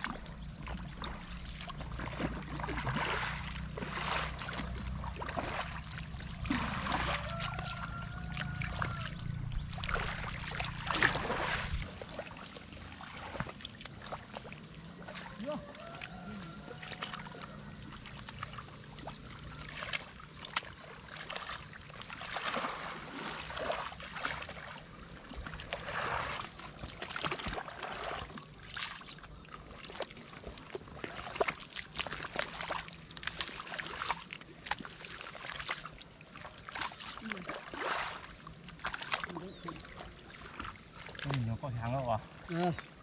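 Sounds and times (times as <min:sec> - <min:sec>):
boots wading through mud: 0:00.0 - 0:43.0
mud and water sloshing: 0:00.0 - 0:43.0.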